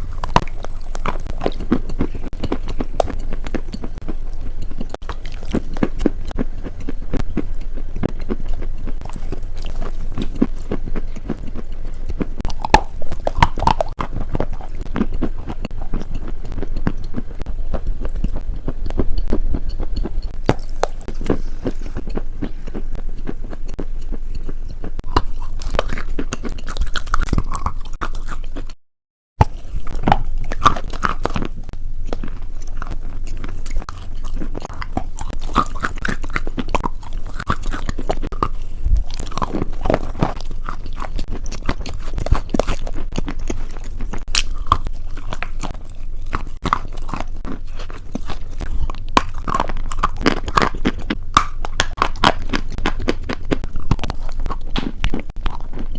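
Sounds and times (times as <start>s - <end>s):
crunching and chewing food: 0.0s - 28.8s, 29.4s - 55.9s.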